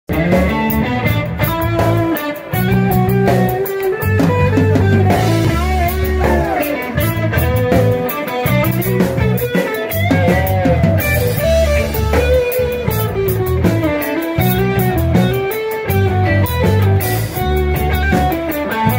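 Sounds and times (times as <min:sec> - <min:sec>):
bending electric guitar lead: 0:00.1 - 0:18.9
heavy bass notes: 0:00.1 - 0:18.9
rock band playing: 0:00.1 - 0:18.9.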